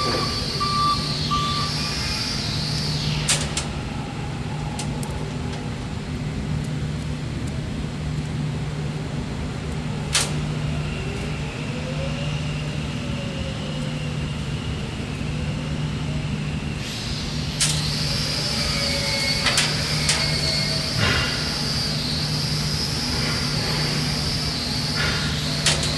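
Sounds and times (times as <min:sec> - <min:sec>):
high hydraulic whine: 0:00.0 - 0:25.9
skid steer engine running: 0:00.0 - 0:25.9.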